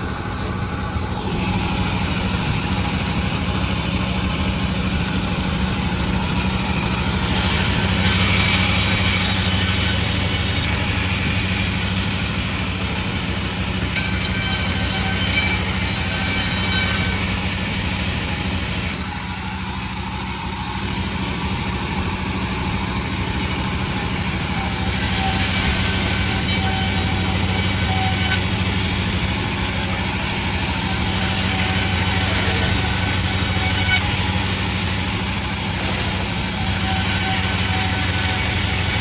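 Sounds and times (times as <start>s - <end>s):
hissing saw noise: 0.0s - 39.0s
sawmill engine drone: 0.0s - 39.0s.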